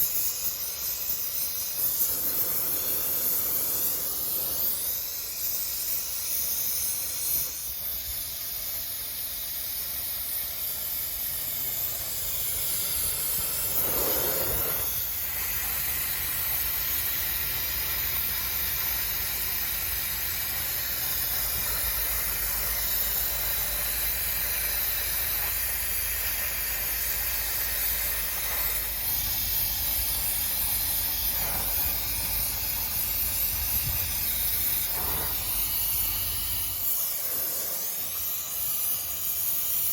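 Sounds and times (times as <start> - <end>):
welding torch flame hissing: 0.0 - 39.9.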